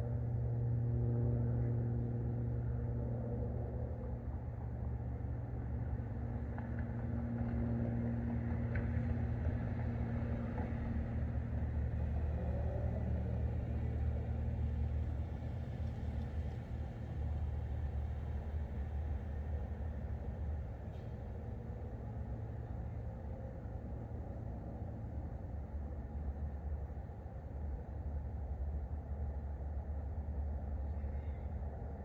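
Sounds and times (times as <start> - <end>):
low hum: 0.0 - 32.0
low rumble: 5.8 - 32.0.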